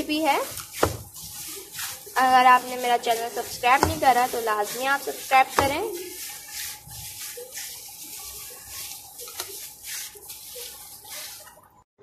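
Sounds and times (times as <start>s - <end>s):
wet squelching of mashed food: 0.0s - 11.8s.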